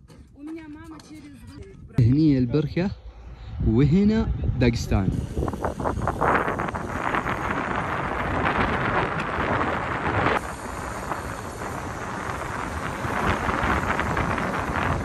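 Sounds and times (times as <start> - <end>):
wind rushing over microphone: 1.4 - 15.0.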